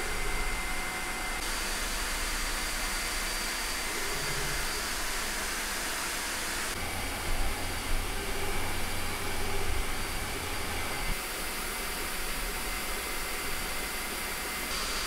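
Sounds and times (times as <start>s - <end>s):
cooling fans whirring: 0.0s - 15.0s.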